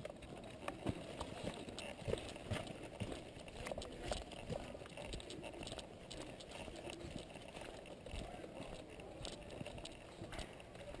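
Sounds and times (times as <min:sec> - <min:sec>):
gear rattling: 0:00.0 - 0:11.0.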